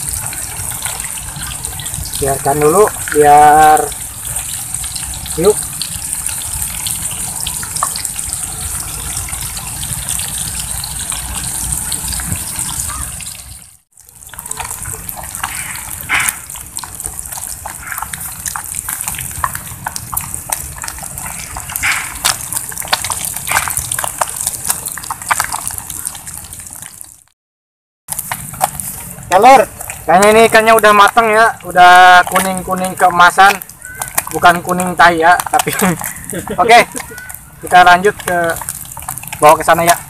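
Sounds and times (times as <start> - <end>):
food deep-frying in hot oil: 0.0 - 27.3, 28.1 - 40.0
oil crackling and popping: 0.0 - 27.4, 28.1 - 40.0.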